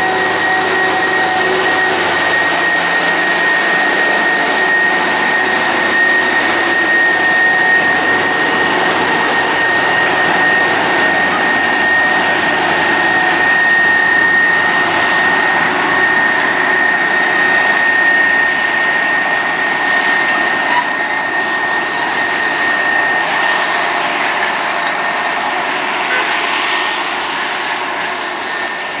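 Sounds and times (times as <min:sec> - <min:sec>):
high whine: 0:00.0 - 0:29.0
train engine running past: 0:00.0 - 0:29.0.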